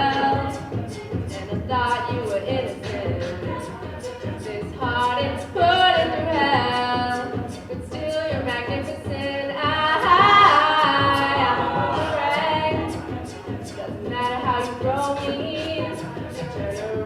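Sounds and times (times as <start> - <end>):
group singing wordless harmonies: 0.0 - 17.0
vocal percussion beat: 0.0 - 17.0.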